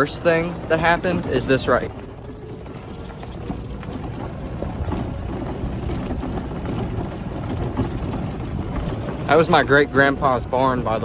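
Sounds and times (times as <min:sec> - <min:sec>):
golf cart engine rumbling: 0:00.0 - 0:11.0.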